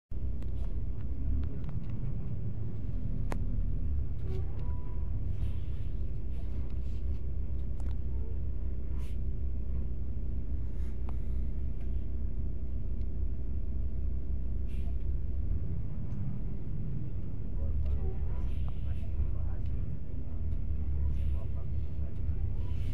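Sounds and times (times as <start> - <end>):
bus engine rumble: 0.1 - 22.9.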